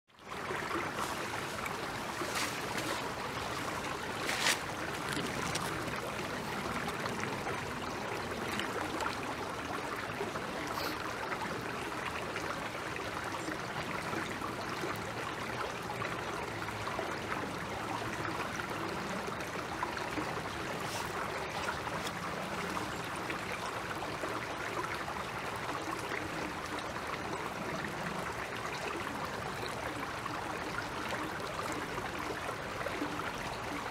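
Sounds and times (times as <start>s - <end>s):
creek flowing over stones: 0.1s - 33.9s.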